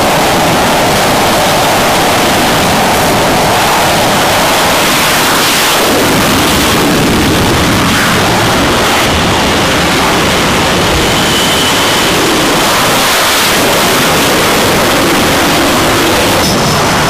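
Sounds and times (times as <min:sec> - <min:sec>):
jet engines at high power: 0:00.0 - 0:17.0.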